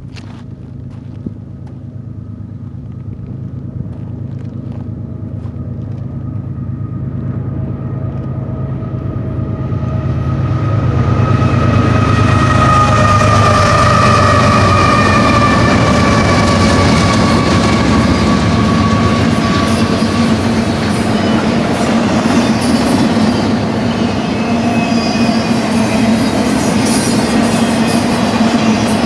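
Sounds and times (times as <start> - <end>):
high whine: 0.0 - 29.0
locomotive engine drone: 0.0 - 29.0.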